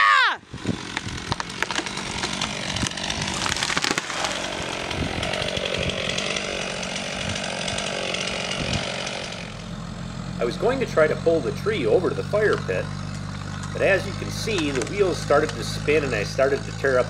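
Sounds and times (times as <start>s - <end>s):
chainsaw revving: 0.4s - 17.0s
tree trunk cracking and snapping: 0.5s - 10.4s, 12.4s - 17.0s
branches crashing into ground: 0.5s - 10.8s, 11.7s - 17.0s.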